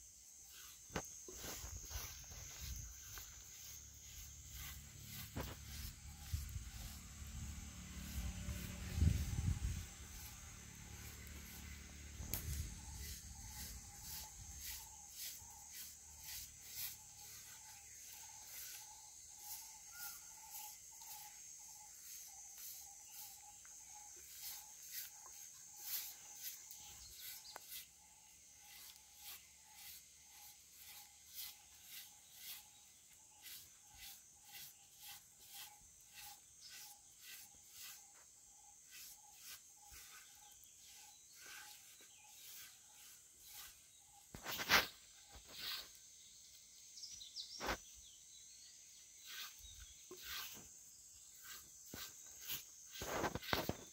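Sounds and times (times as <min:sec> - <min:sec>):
high insect drone: 0:00.0 - 0:53.9
insect chirping: 0:00.0 - 0:53.9
hands scraping flour in clay pot: 0:00.5 - 0:46.0, 0:49.2 - 0:53.9.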